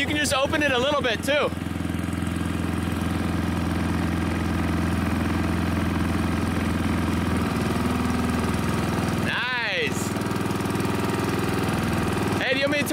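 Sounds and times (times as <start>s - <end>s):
small engine running water pump: 0.0s - 12.9s.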